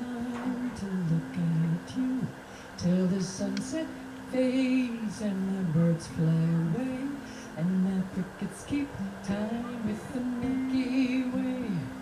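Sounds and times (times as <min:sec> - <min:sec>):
person humming slow melody: 0:00.0 - 0:12.0.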